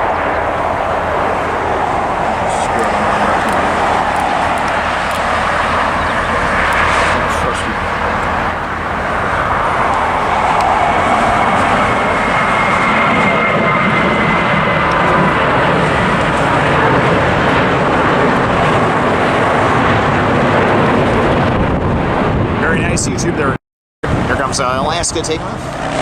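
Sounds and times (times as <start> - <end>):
high whine: 0.0 - 21.7
jet engines roaring: 0.0 - 26.0.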